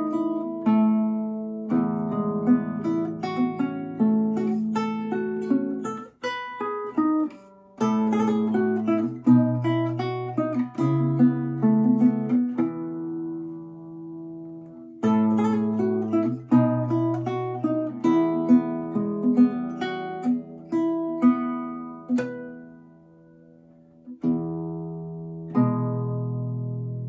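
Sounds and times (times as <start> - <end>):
fingerpicked classical guitar: 0.0 - 27.0.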